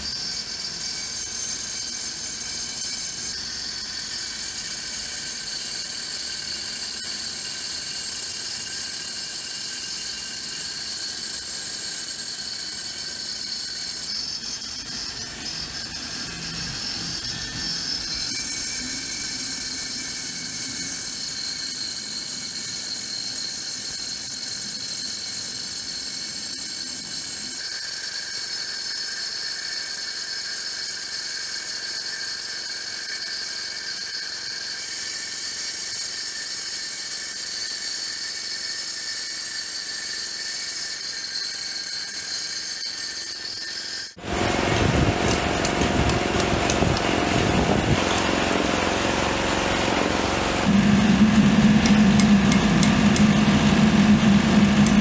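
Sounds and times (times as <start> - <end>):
angle grinder whining: 0.0 - 55.0
disc grinding into brick: 0.0 - 55.0.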